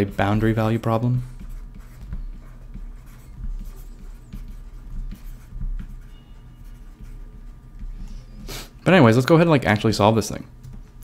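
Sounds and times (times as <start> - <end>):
faint low hum: 0.0 - 11.0
stylus tapping and scratching: 0.0 - 11.0.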